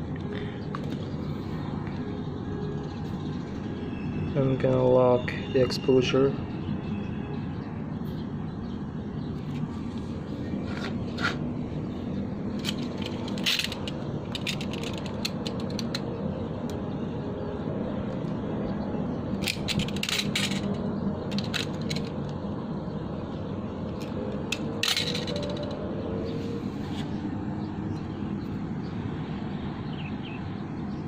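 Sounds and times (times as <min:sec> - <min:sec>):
steady low hum: 0:00.0 - 0:05.6, 0:06.3 - 0:31.0.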